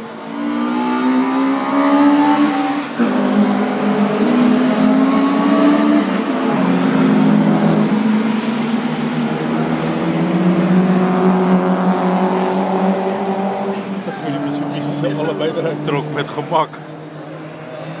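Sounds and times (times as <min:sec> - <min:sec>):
race car engines running hard: 0:00.0 - 0:18.0.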